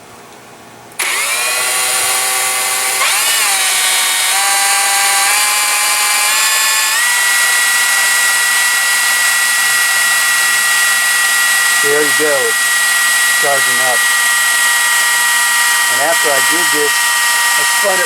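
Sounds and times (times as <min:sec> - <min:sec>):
electric drill motor whine: 0:01.0 - 0:18.0.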